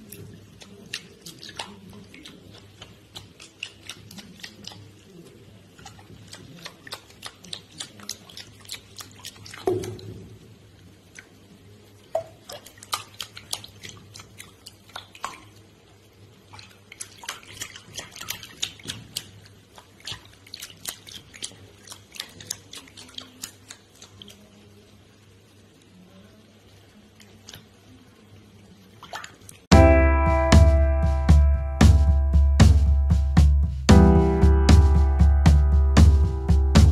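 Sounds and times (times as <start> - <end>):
bath water splashing and dripping: 0.0 - 24.7, 28.8 - 36.9.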